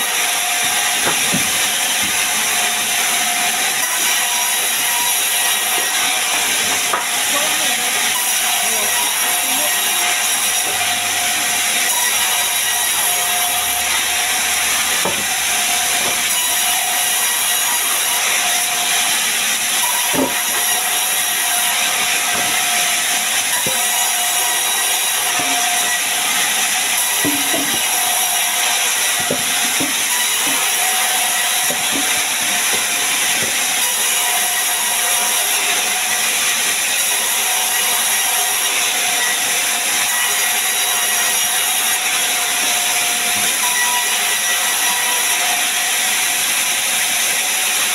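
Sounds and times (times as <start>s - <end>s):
band saw cutting timber: 0.0s - 47.9s.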